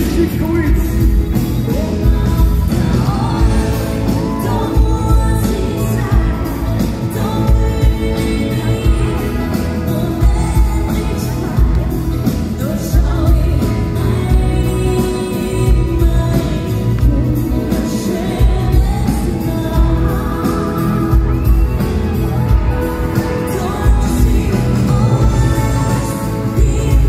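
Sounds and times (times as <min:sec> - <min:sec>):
live band playing: 0:00.0 - 0:27.0
woman singing: 0:00.8 - 0:27.0.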